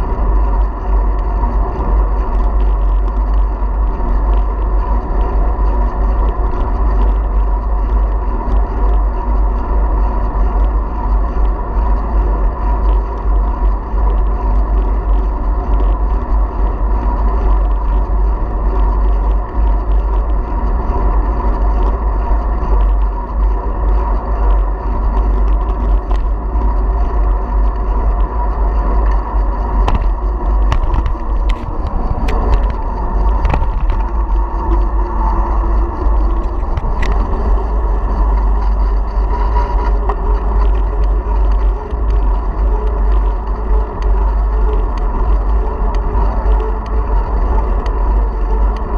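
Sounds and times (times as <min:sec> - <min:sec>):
bicycle tyre noise: 0:00.0 - 0:48.9
wind rumble on microphone: 0:00.0 - 0:48.9.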